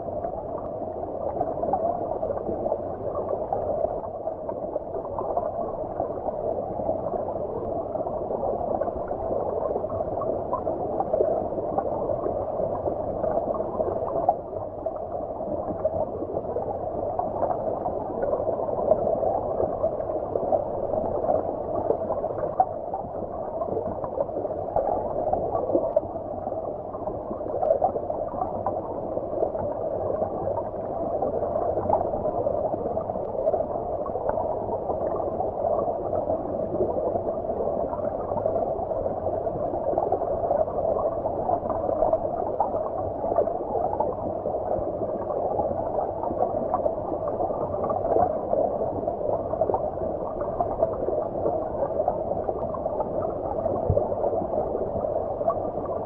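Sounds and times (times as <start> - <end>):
muffled stream water gurgling: 0.0 - 56.0.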